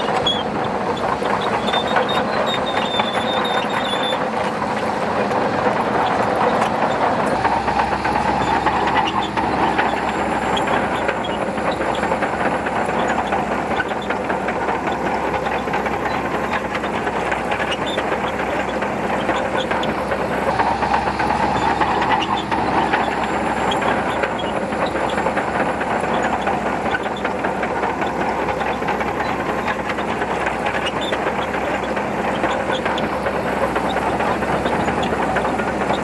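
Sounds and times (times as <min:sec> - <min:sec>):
diesel engine under load: 0:00.0 - 0:36.0
steel tracks clanking: 0:00.0 - 0:36.0.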